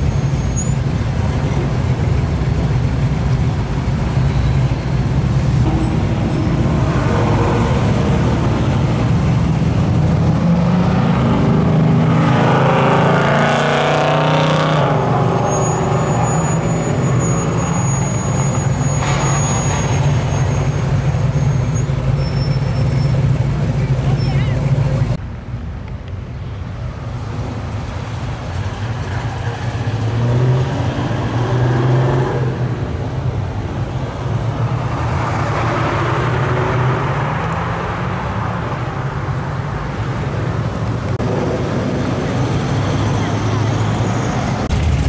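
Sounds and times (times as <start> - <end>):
car engines rumbling in traffic: 0.0 - 45.0.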